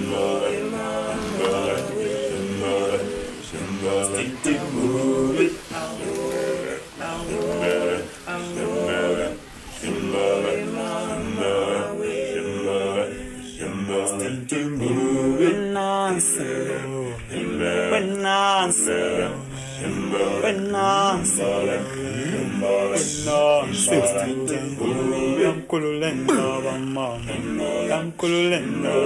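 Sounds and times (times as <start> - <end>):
men singing song: 0.0 - 29.0.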